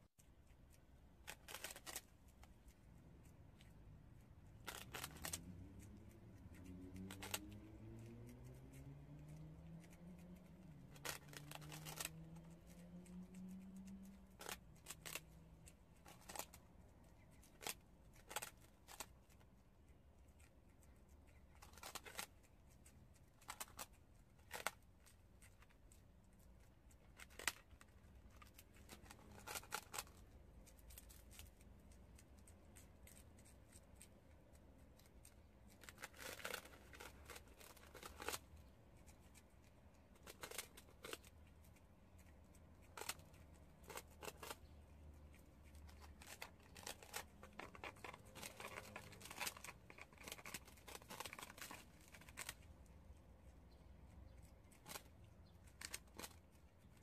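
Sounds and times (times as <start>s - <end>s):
rodents crunching rice cakes: 0.0s - 57.0s.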